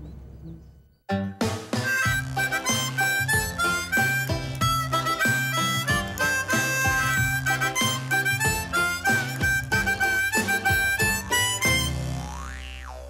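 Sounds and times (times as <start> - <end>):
lively instrumental tune: 1.1 - 12.8.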